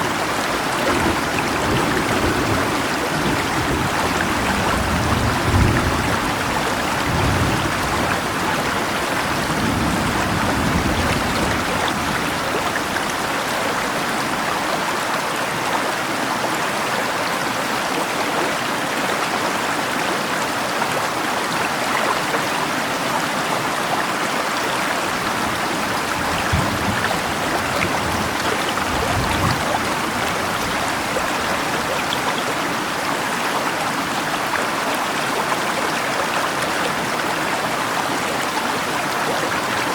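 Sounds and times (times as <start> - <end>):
falling rain: 0.0 - 39.9
river rushing: 0.0 - 39.9.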